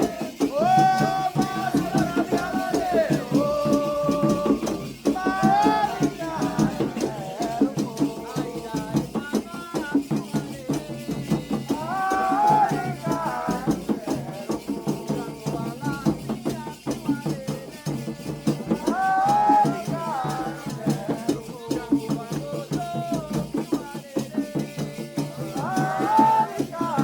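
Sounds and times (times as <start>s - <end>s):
drums: 0.0s - 27.0s
rattles shaken: 0.0s - 27.0s
voices singing: 0.0s - 27.0s.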